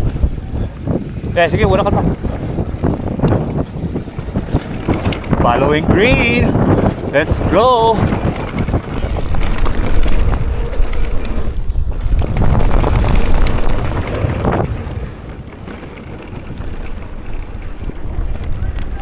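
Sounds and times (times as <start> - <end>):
bike clattering over rough ground: 0.0 - 19.0
wind rushing over microphone: 0.0 - 19.0.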